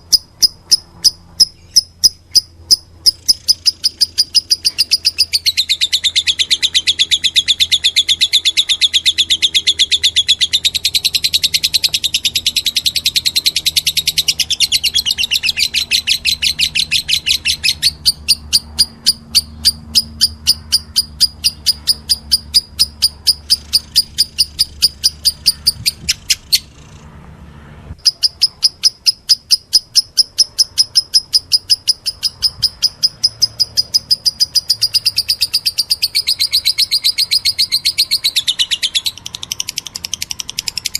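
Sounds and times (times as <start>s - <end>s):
bird chick begging chirps: 0.0s - 27.0s, 28.0s - 40.9s.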